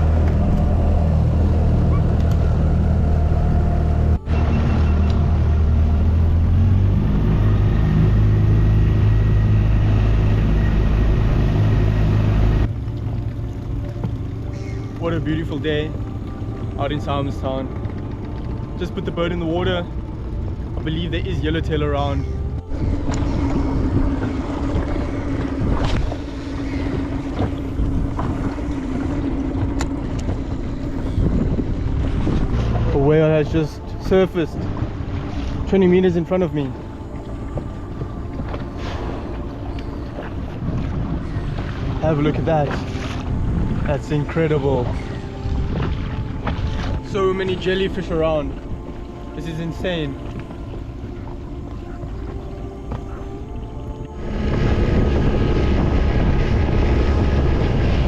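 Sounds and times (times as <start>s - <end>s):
outboard motor running: 0.0s - 58.0s
water noise: 0.0s - 58.0s.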